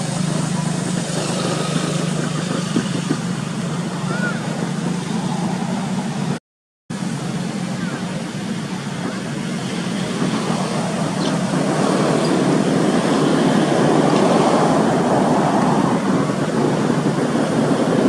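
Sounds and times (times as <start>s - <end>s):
outdoor rushing noise: 0.0s - 18.0s.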